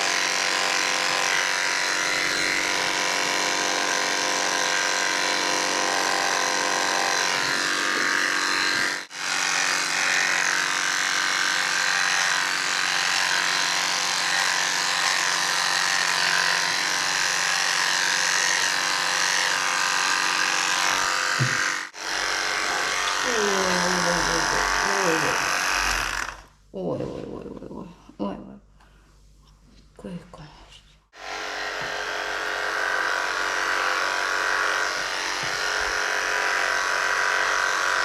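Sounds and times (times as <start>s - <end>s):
electric clippers buzzing: 0.0s - 26.5s, 31.1s - 38.0s.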